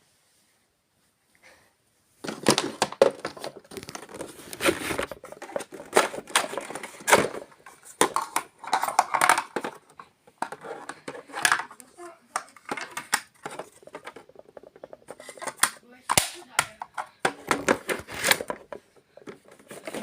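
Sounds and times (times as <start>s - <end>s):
paper crinkling and crackling: 2.2s - 16.3s, 17.4s - 20.0s.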